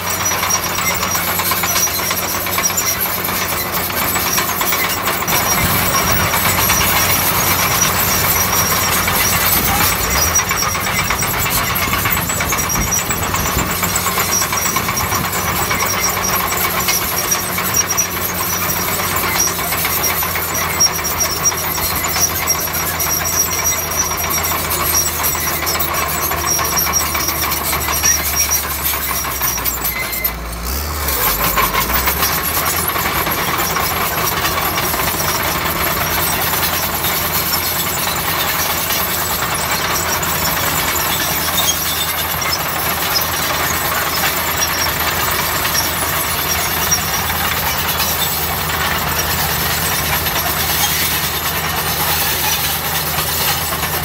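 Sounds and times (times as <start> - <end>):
bulldozer diesel engine running: 0.0 - 54.0
metallic clatter: 0.0 - 54.0.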